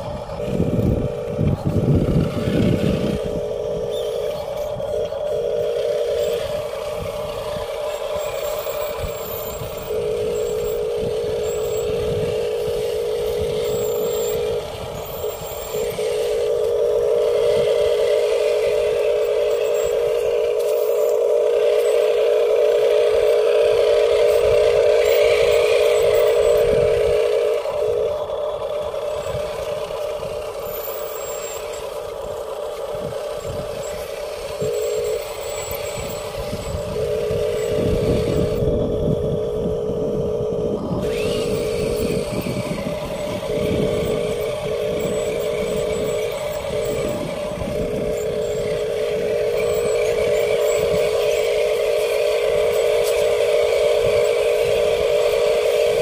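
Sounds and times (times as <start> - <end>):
toy truck motor whine: 0.0 - 56.0.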